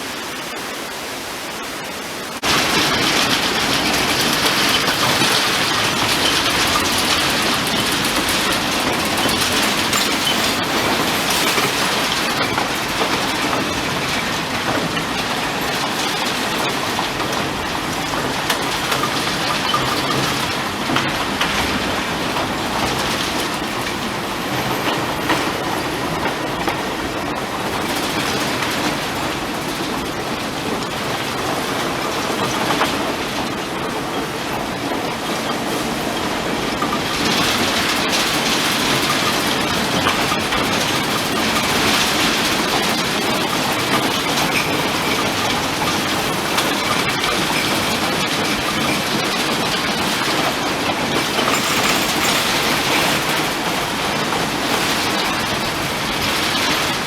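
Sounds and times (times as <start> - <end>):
train wheels clicking over rail joints: 2.4 - 57.0.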